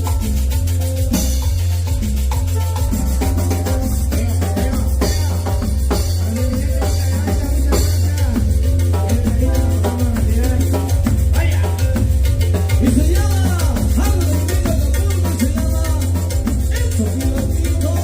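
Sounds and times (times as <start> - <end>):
latin dance music: 0.0 - 18.0.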